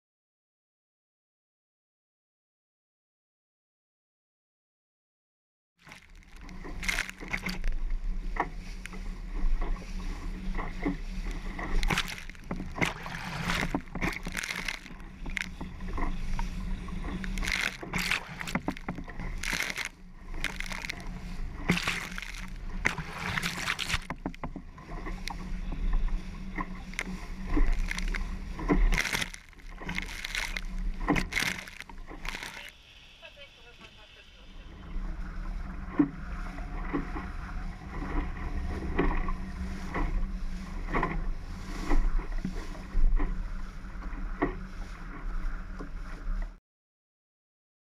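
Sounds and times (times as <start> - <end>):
bow wave rushing along hull: 5.9 - 46.6
wind rumble on microphone: 6.2 - 32.7, 34.6 - 46.6.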